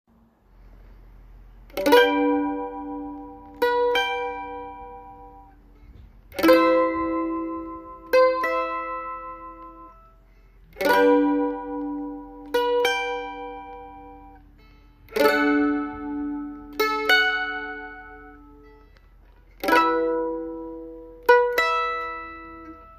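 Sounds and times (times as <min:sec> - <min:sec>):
mandolin chords strummed: 0:00.6 - 0:22.9.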